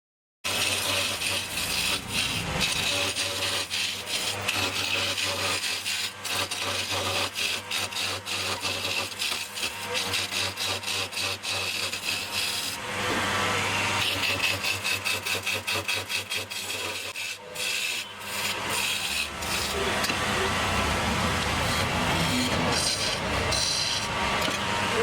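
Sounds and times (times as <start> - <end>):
tool scraping spinning wood: 0.4 - 25.0
lathe motor hum: 0.5 - 25.0.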